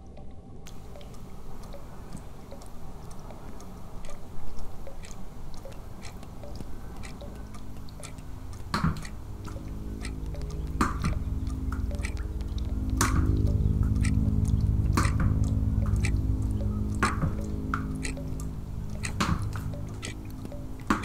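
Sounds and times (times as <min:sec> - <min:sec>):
low rumble: 0:00.0 - 0:21.0
low sustained music chord: 0:00.7 - 0:21.0
water drops tapping: 0:00.7 - 0:21.0.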